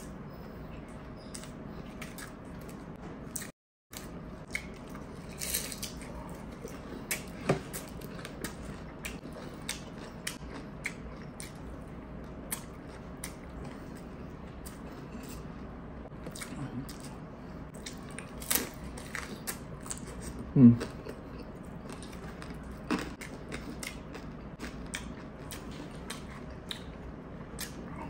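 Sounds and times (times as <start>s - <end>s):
chewing crusty bread: 1.2s - 28.0s.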